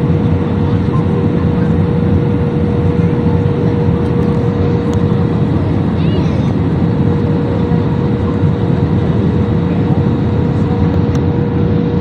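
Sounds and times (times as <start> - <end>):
airliner cabin engine noise: 0.0 - 12.0
constant hum tone: 0.0 - 12.0.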